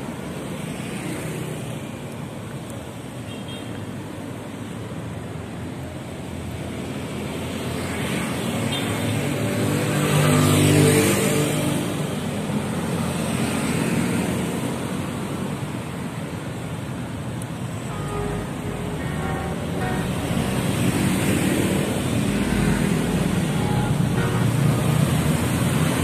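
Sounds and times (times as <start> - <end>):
road traffic passing: 3.9 - 26.0.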